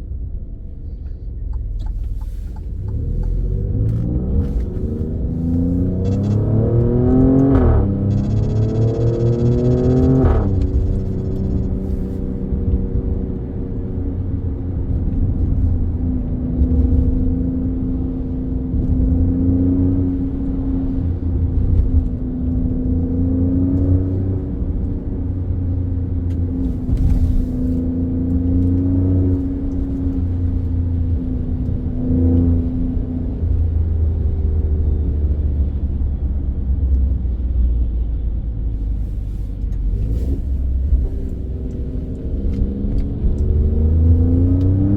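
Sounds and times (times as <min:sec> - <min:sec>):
car engine deep rumble: 0:00.0 - 0:44.9.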